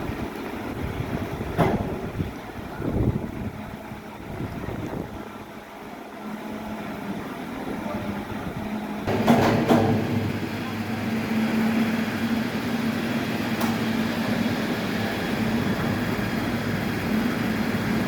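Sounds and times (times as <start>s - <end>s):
heavy machinery humming: 0.0s - 18.0s.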